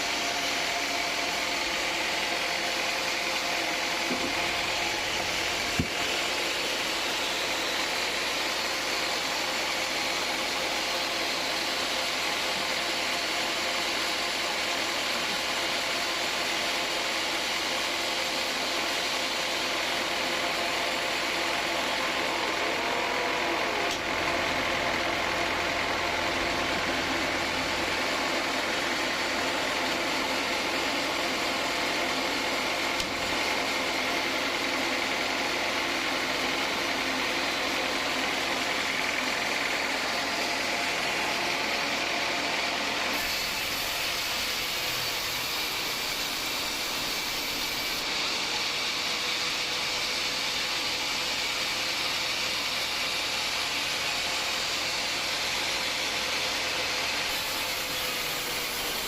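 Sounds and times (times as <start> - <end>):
band saw machine humming: 0.0 - 16.6, 19.6 - 50.6, 56.8 - 59.0.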